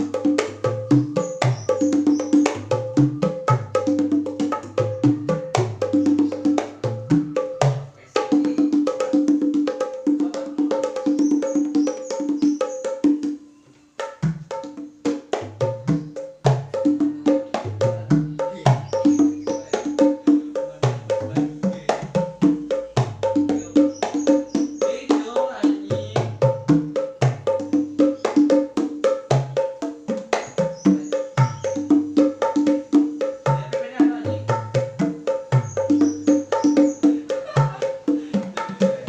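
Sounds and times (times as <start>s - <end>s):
wooden hand drums played by hand: 0.0s - 39.0s.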